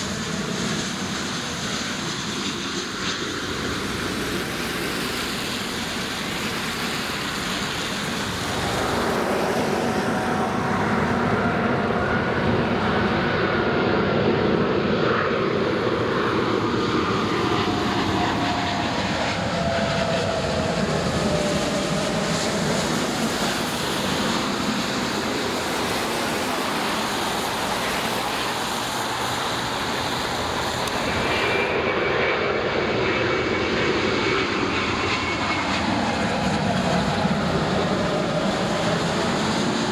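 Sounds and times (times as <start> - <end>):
high jet engine whine: 0.0 - 39.9
jet engines roaring: 0.0 - 39.9.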